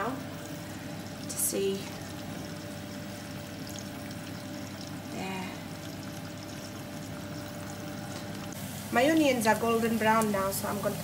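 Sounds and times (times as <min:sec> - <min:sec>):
faint steady hum: 0:00.0 - 0:11.0
water boiling and bubbling: 0:00.0 - 0:11.0.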